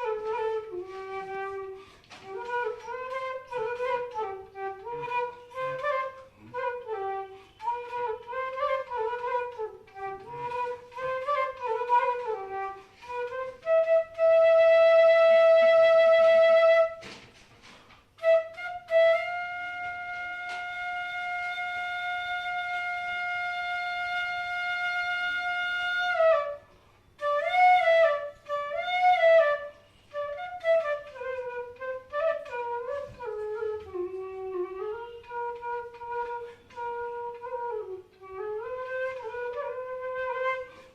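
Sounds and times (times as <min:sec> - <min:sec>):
bamboo flute melody: 0:00.0 - 0:40.9.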